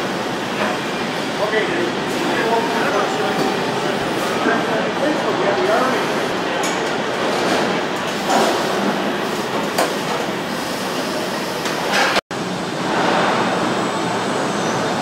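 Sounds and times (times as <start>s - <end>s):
factory machinery din: 0.0s - 15.0s.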